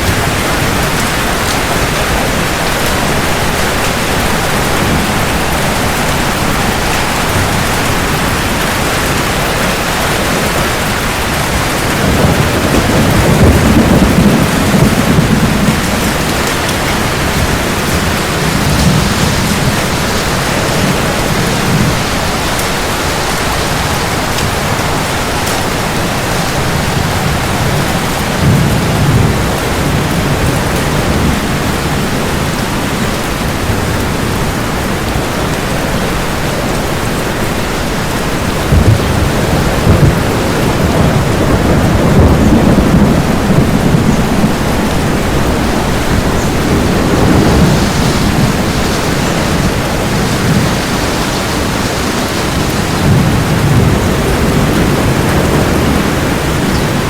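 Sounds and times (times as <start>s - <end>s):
heavy rain: 0.0s - 57.0s
low thunder rumble: 0.0s - 57.0s.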